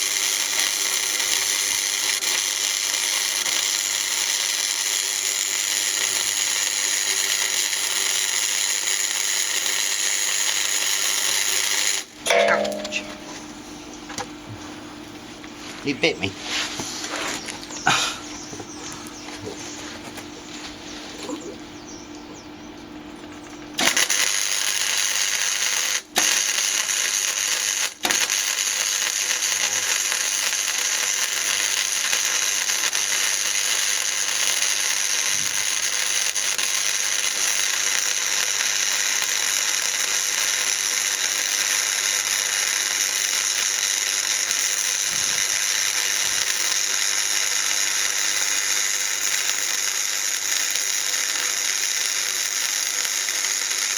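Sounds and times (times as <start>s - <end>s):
electric welding arc hissing: 0.0s - 13.1s, 23.8s - 53.9s.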